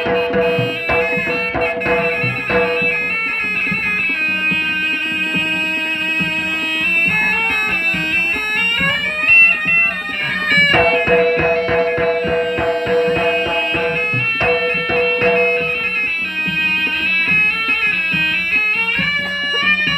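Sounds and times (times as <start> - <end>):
drum beat: 0.0 - 19.9
nasal reed shawm melody: 0.0 - 19.9.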